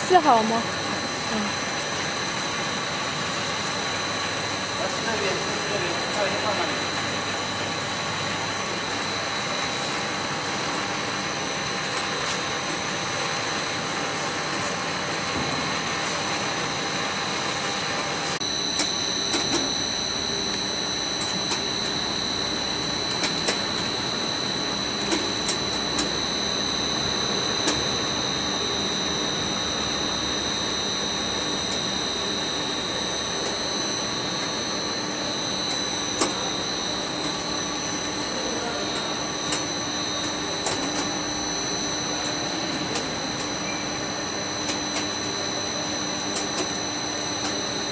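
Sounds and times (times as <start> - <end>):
machine running with whine: 0.0 - 47.9.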